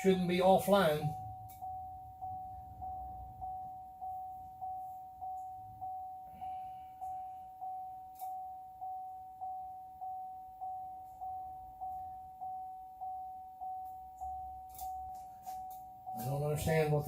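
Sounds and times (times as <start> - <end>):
electronic chime dinging: 0.0 - 17.0
faint low hum: 0.0 - 17.0.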